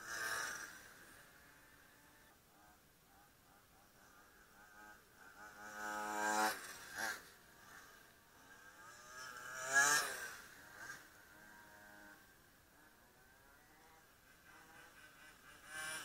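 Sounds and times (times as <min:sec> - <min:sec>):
radio-controlled cars passing: 0:00.0 - 0:16.0.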